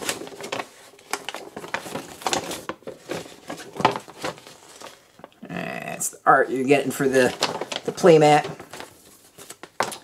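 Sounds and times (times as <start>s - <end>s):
packaging rustling and crackling: 0.0s - 5.4s, 6.8s - 10.0s.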